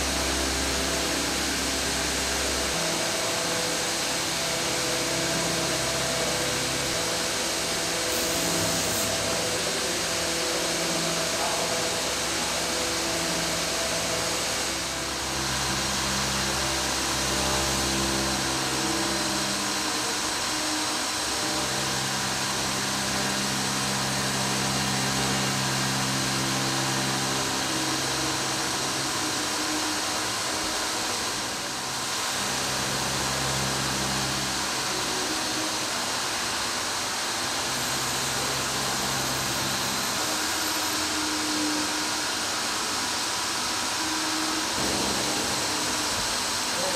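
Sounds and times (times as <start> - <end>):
spindle cutting stone hiss: 0.0 - 46.9.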